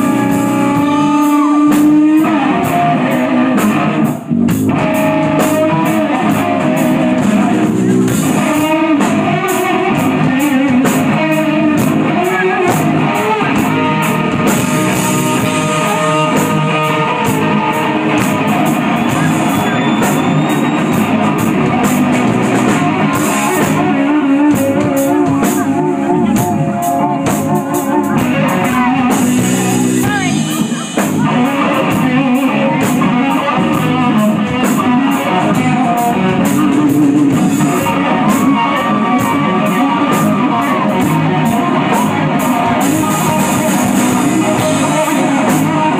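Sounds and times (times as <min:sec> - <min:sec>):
drum kit: 0:00.0 - 0:45.9
electric guitar: 0:00.0 - 0:45.9.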